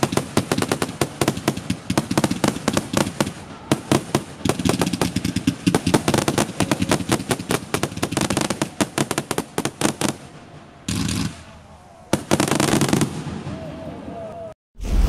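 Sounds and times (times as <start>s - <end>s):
fireworks bangs and cracks: 0.0s - 14.0s.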